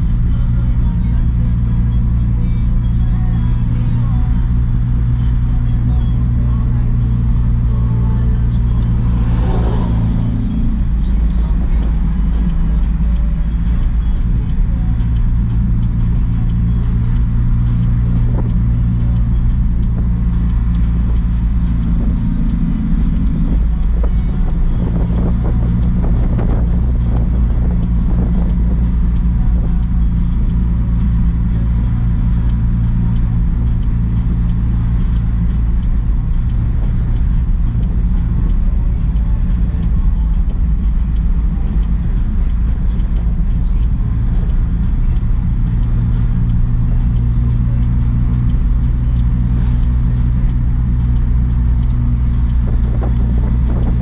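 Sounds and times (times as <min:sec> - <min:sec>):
road noise: 0:00.0 - 0:54.0
truck engine droning: 0:00.0 - 0:54.0.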